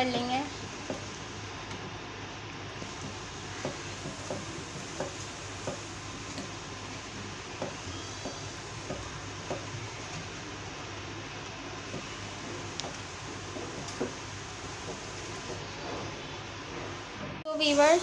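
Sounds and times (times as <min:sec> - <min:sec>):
steady hiss and low hum: 0:00.0 - 0:18.0
wooden spoon stirring in metal pot: 0:02.8 - 0:17.9.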